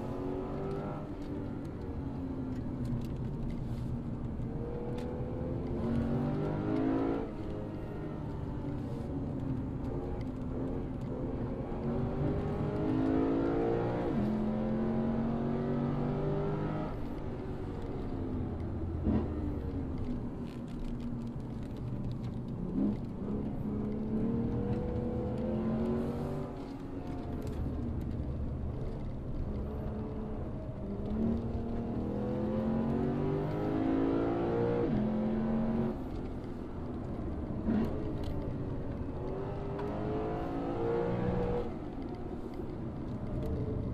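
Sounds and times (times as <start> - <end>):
car engine revving through gears: 0.0 - 18.2, 19.0 - 43.9.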